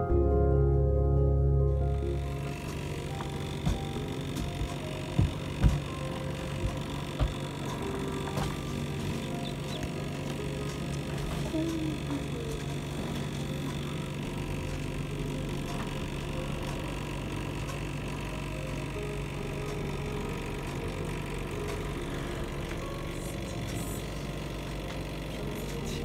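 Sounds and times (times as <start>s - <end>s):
computer fan humming: 0.0s - 26.0s.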